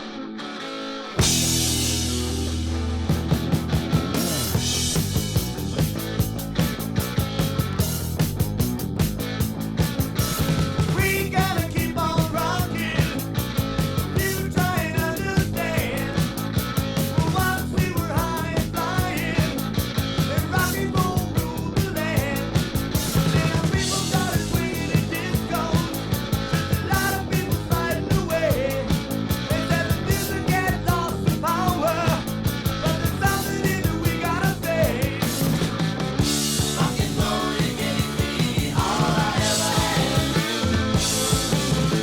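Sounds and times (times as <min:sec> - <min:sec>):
rock band playing: 0:00.0 - 0:42.0.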